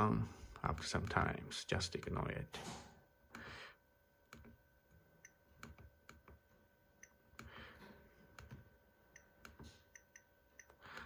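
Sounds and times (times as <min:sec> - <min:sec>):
low electrical whine: 0:00.0 - 0:11.0.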